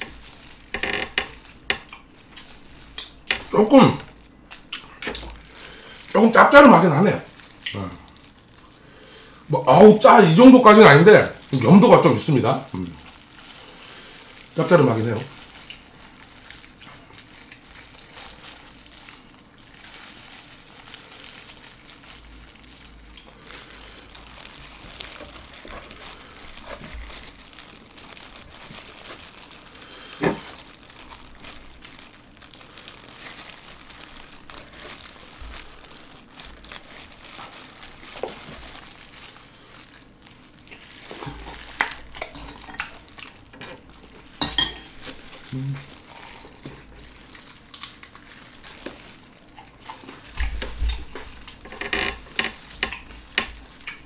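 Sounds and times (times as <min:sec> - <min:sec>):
wet chewing and smacking: 0:00.0 - 0:06.2, 0:07.4 - 0:08.8, 0:15.3 - 0:54.0
plastic gloves crinkling: 0:00.0 - 0:54.0.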